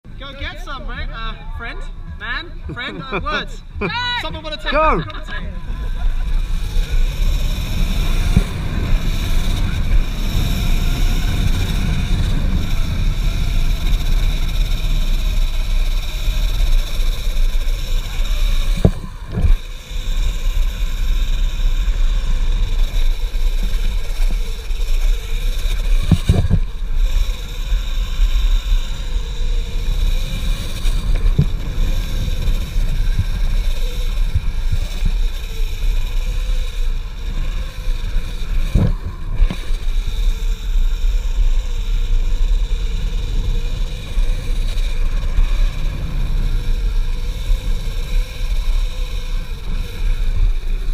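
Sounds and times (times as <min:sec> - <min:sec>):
high electric motor whine: 0:00.1 - 0:50.9.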